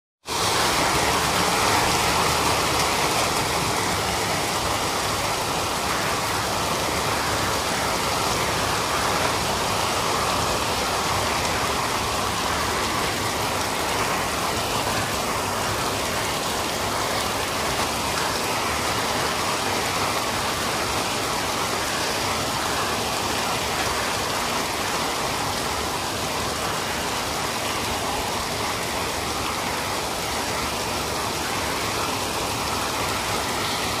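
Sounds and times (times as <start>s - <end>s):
heavy rain pouring: 0.2s - 34.0s.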